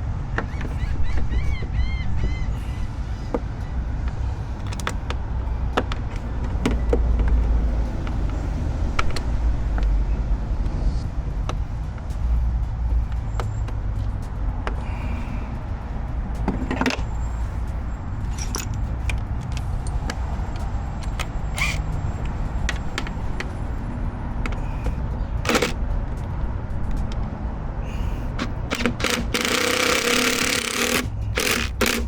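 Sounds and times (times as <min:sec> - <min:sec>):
steady low rumble: 0:00.0 - 0:29.4.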